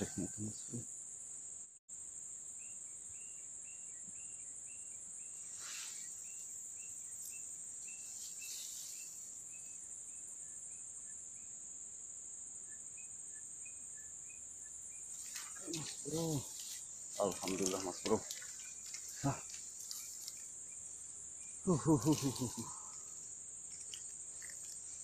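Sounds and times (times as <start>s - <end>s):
crickets buzzing: 0.0s - 25.0s.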